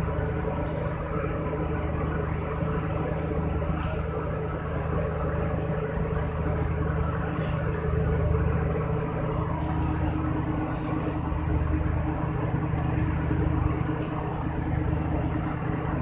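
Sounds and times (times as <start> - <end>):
boat machinery humming: 0.0 - 16.0.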